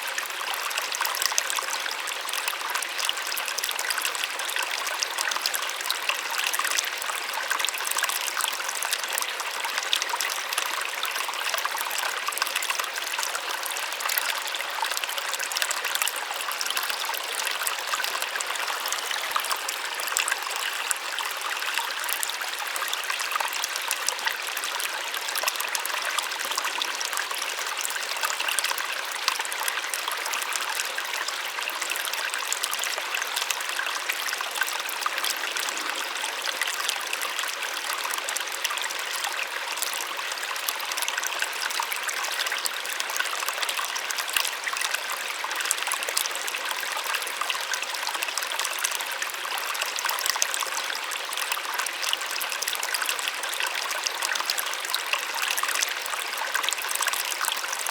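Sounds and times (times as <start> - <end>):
small waterfall splashing: 0.0 - 57.9.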